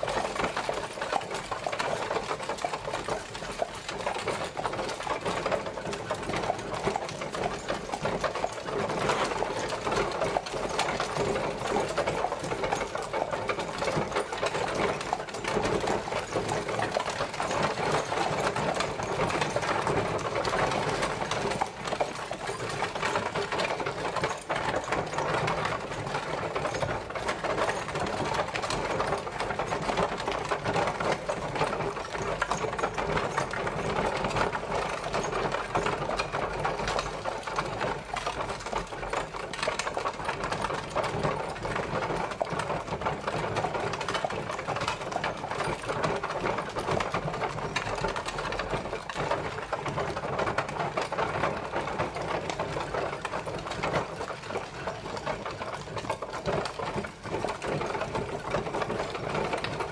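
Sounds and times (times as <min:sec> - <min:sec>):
horse-drawn carriage clatter: 0:00.0 - 0:59.9.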